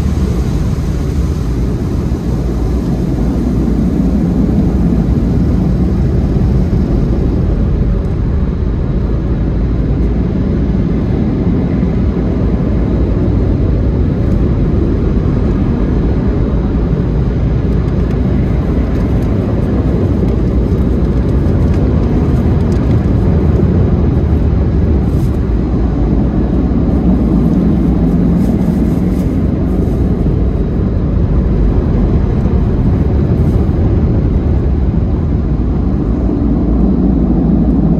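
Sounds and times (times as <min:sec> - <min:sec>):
car wash machinery roar: 0:00.0 - 0:37.9.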